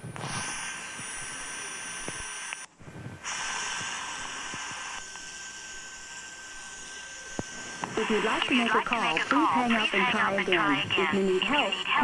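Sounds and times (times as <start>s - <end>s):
telephone line static hiss: 0.0s - 12.0s.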